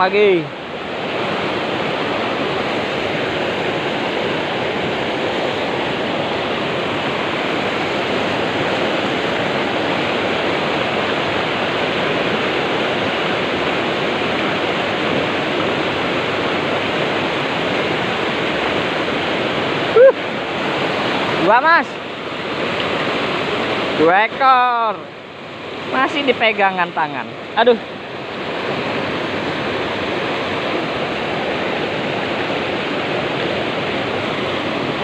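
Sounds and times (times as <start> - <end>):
water rushing over weir: 0.0 - 35.0.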